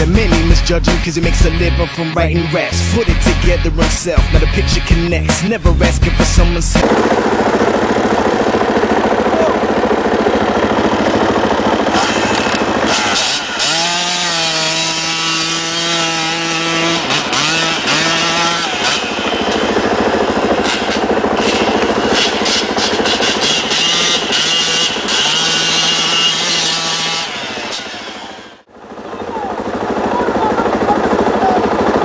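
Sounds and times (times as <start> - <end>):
engine revving: 0.0 - 32.0
quad bike engines running hard: 0.0 - 32.0.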